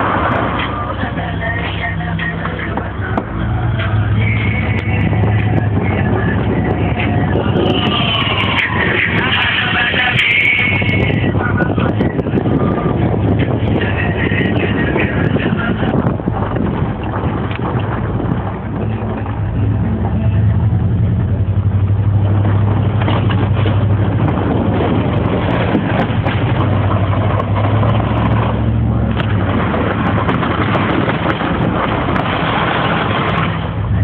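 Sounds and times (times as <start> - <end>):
truck engine low drone: 0.0 - 34.0.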